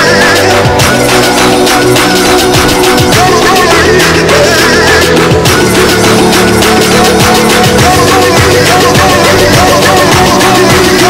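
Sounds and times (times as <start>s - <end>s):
loud electronic music: 0.0s - 11.0s.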